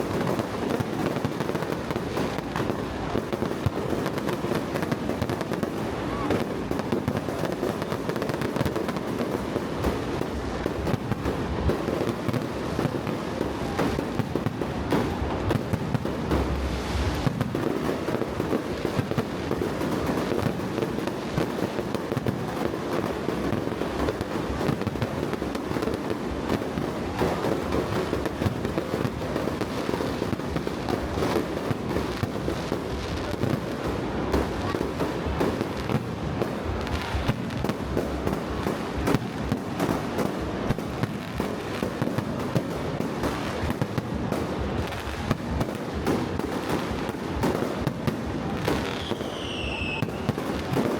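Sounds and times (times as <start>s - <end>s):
fireworks popping and crackling: 0.0s - 50.9s.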